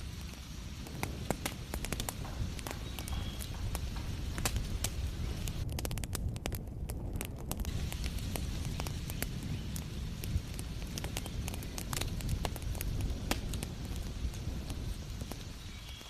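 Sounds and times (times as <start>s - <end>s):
low steady rumble: 0.0s - 14.9s
wood fire crackling: 0.0s - 16.0s.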